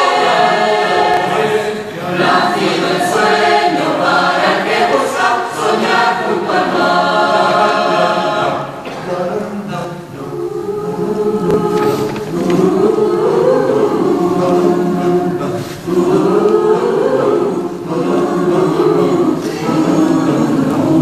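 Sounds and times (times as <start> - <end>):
mixed choir singing a cappella: 0.0 - 21.0.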